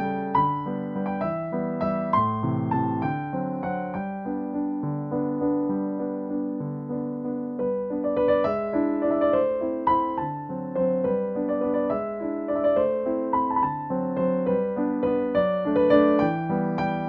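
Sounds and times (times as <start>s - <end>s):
background piano music: 0.0s - 17.0s.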